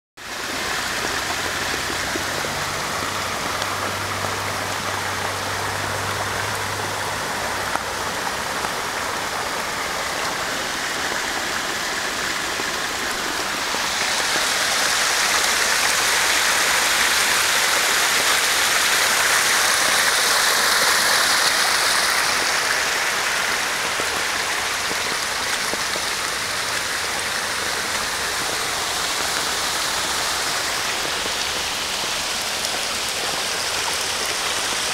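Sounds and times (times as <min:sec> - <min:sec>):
water rushing over ground: 0:00.2 - 0:34.9.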